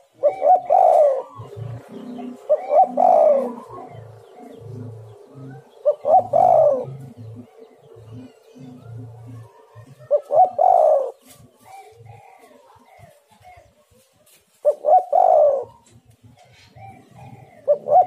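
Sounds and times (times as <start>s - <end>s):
doves cooing: 0.0s - 18.0s.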